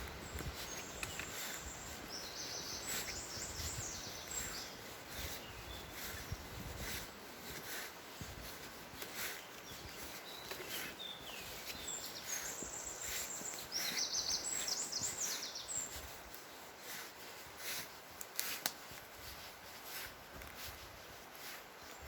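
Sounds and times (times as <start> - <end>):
songbirds chirping and warbling: 0.0 - 22.0
steady outdoor hiss: 0.0 - 22.0.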